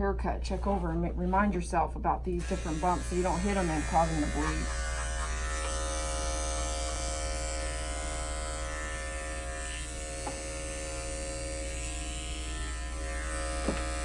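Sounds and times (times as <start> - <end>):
electric dog clippers buzzing: 2.4 - 14.0.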